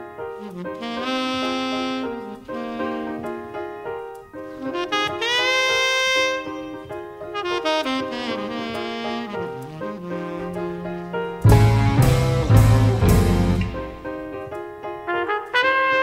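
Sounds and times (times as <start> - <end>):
piano chords: 0.0 - 16.0
horn playing long notes: 0.4 - 3.4, 4.6 - 14.0, 15.1 - 16.0.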